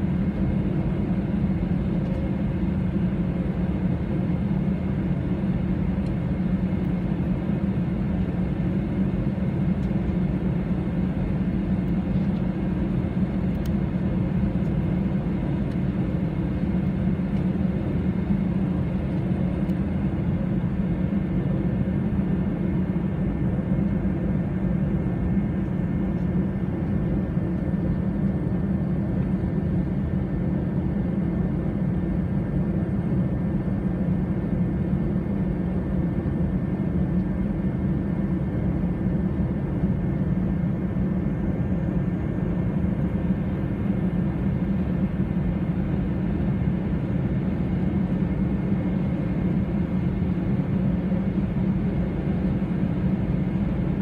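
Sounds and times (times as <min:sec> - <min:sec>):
airplane cabin hum: 0:00.0 - 0:54.0
faint steady whine: 0:00.0 - 0:54.0.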